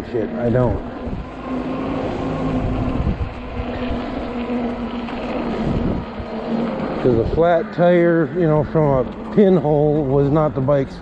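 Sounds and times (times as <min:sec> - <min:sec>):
electric motor whine: 0:00.0 - 0:11.0
tyres rumbling on slush: 0:00.0 - 0:11.0
wind on microphone: 0:00.0 - 0:11.0.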